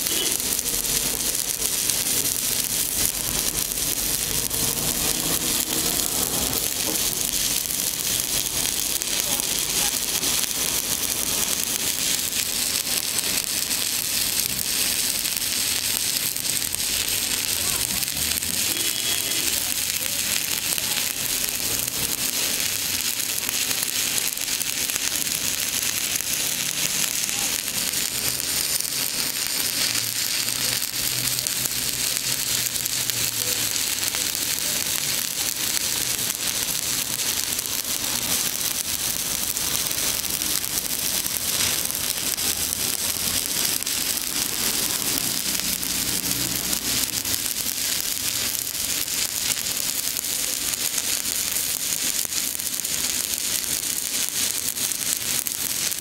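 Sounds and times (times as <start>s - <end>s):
welding arc crackling: 0.0s - 56.0s.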